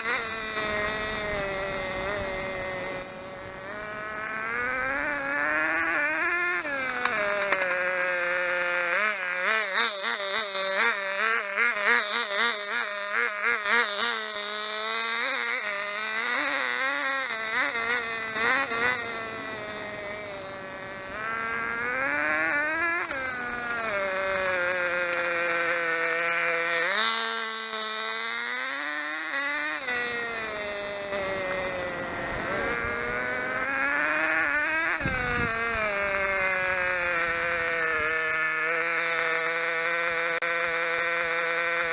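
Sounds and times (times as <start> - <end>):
model car glow engine revving: 0.0 - 41.9.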